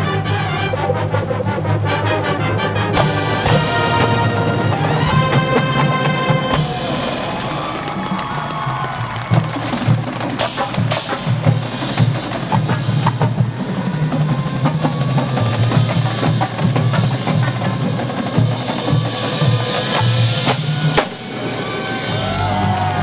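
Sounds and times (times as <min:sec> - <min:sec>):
marching band playing: 0:00.0 - 0:23.0
drums striking: 0:02.9 - 0:23.0.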